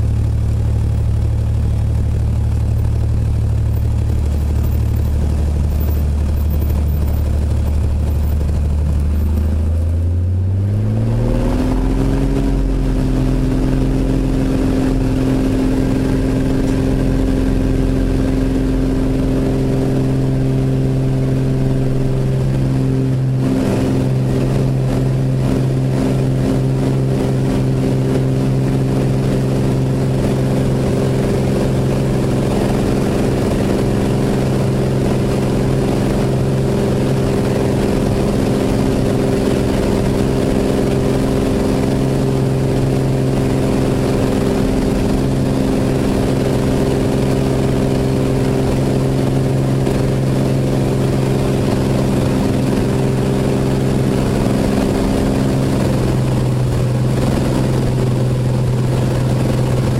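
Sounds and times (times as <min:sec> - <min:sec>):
airplane engine droning in cabin: 0:00.0 - 0:59.9.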